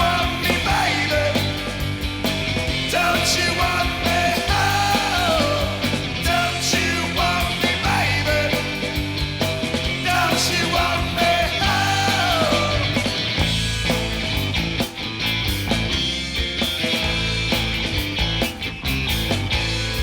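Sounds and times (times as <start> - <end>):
drums keeping a beat: 0.0 - 20.0
rock band playing: 0.0 - 20.0.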